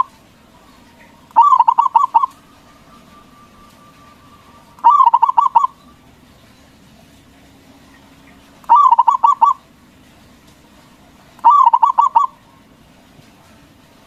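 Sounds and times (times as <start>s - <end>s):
dove cooing: 0.0s - 7.2s, 7.9s - 9.7s, 10.7s - 13.6s.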